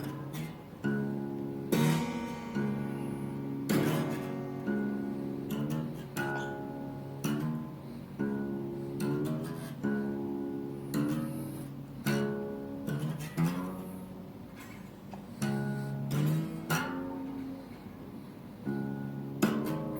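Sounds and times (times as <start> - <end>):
slide guitar blues licks: 0.0 - 19.9.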